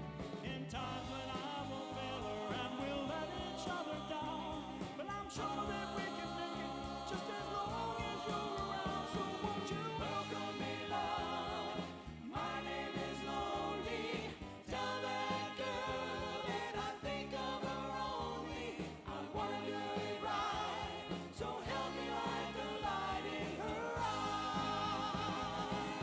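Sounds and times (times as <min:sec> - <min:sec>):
band playing oldies song: 0:00.0 - 0:26.0
voices singing in harmony: 0:00.4 - 0:26.0.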